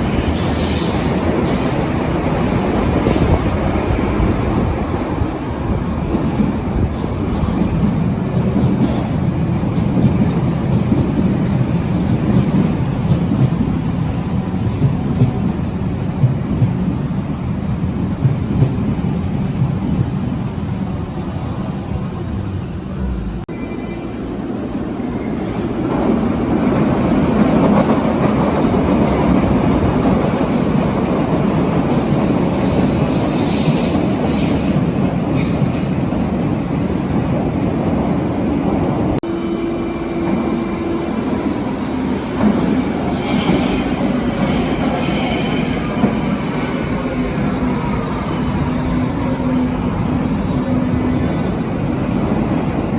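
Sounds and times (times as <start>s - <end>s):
train rumbling on track: 0.0s - 52.9s.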